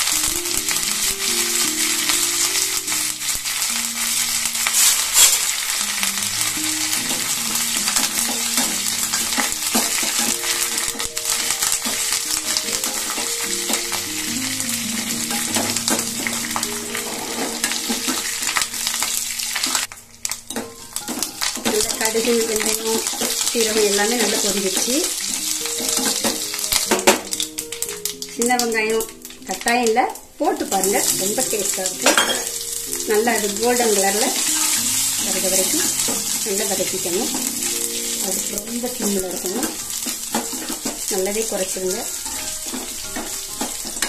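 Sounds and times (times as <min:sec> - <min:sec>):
steel ladle stirring: 0:00.0 - 0:28.0, 0:30.8 - 0:44.0
soft background music: 0:00.0 - 0:44.0
spices sizzling in hot oil: 0:00.0 - 0:44.0.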